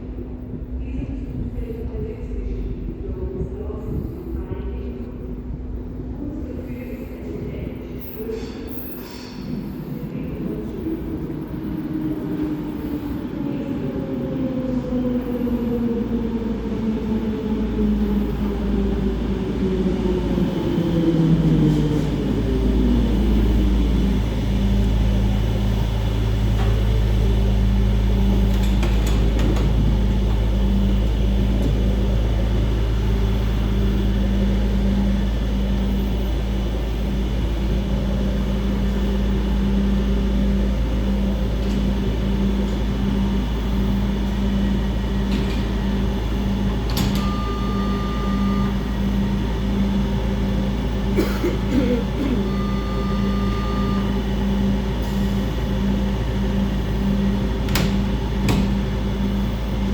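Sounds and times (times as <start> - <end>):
standing train humming: 0.0 - 59.9.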